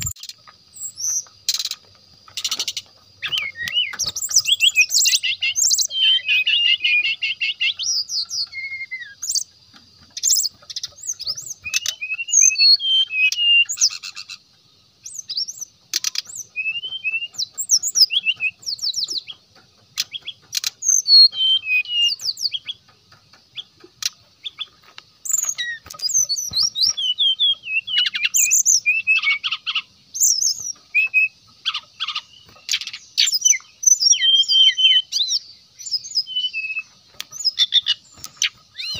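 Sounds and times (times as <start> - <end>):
bird singing whistled notes: 0.0 - 19.4, 20.0 - 38.9.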